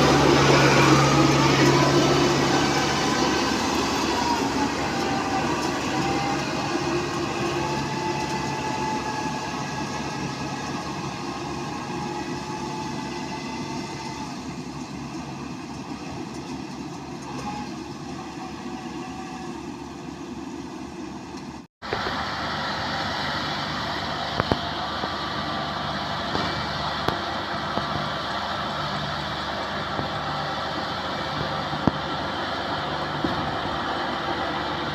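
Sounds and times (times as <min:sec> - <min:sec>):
harvester engine running: 0:00.0 - 0:34.9.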